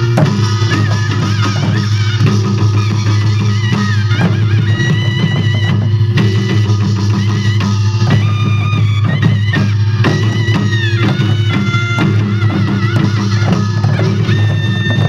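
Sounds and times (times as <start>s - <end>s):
drum strokes: 0.0s - 15.0s.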